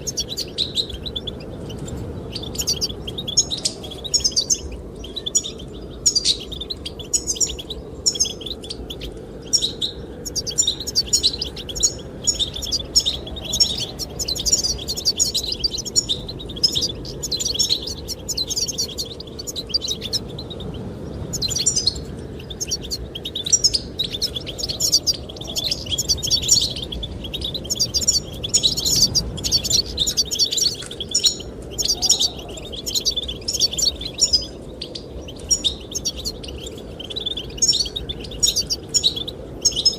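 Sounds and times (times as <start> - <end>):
goldfinches twittering: 0.0 - 39.9
low rush of wind: 0.0 - 39.9.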